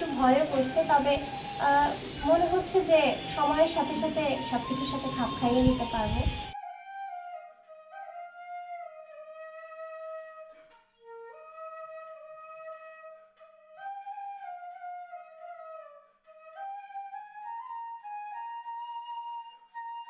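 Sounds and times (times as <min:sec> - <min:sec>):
slow solo flute melody: 0:00.0 - 0:20.0.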